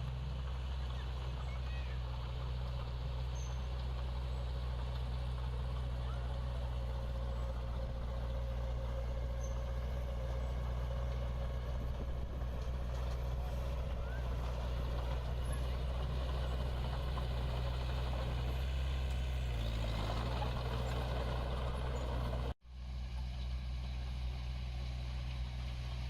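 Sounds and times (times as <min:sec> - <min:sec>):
diesel engine of heavy machinery: 0:00.0 - 0:26.0.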